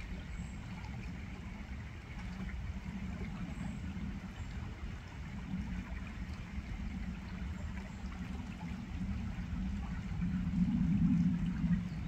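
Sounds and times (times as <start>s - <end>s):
river water running over stones: 0.0s - 12.0s
steady low hum: 0.0s - 12.0s.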